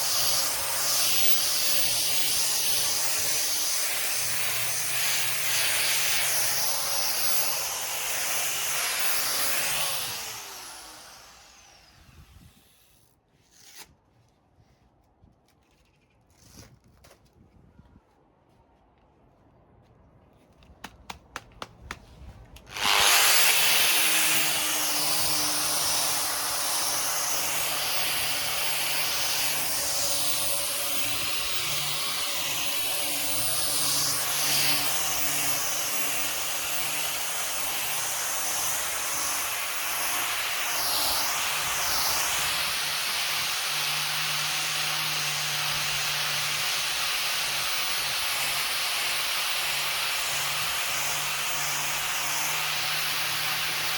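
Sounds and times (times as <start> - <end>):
orbital sander on wood: 0.0 - 12.9, 22.7 - 53.9.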